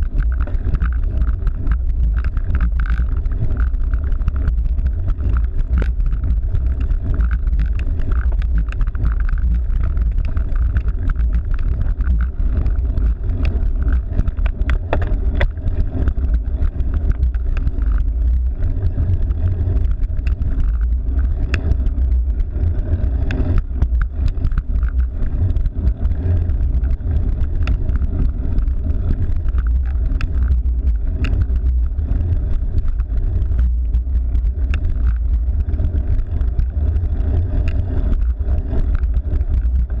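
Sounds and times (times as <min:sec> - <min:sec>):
bike road noise: 0:00.0 - 0:40.0
small clicks and rattles: 0:00.0 - 0:40.0
wind rumble on microphone: 0:00.0 - 0:40.0.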